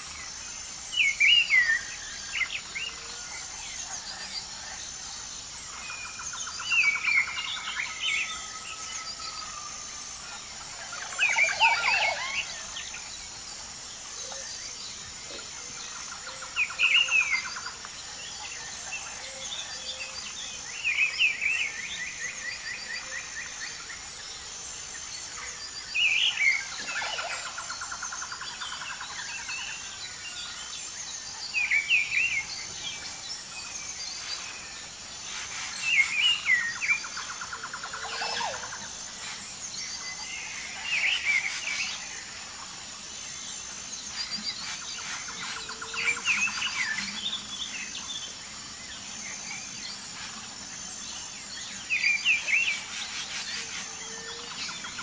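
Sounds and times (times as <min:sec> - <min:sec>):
insect chirring: 0:00.0 - 0:55.0
songbirds chirping: 0:00.0 - 0:55.0.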